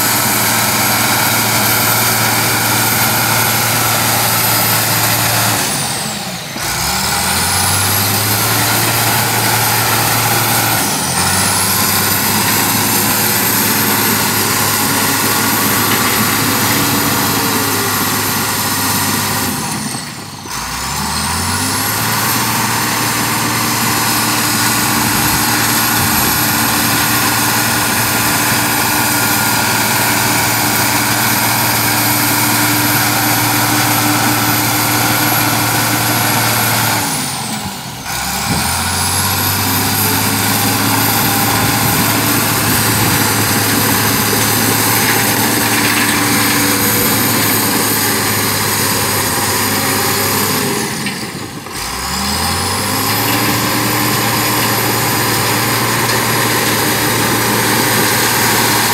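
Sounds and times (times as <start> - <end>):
bulldozer diesel engine under load: 0.0 - 58.9.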